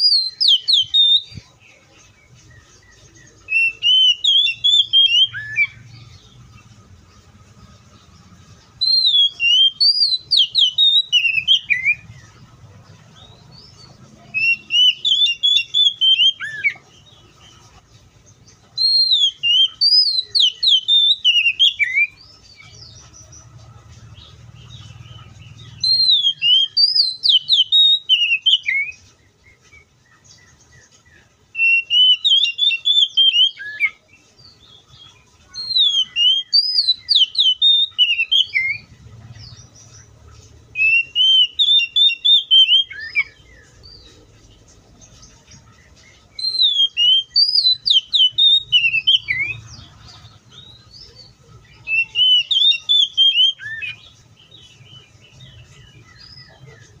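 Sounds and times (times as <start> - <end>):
bird singing whistled notes: 0.0 - 12.4, 13.1 - 17.7, 18.3 - 57.0.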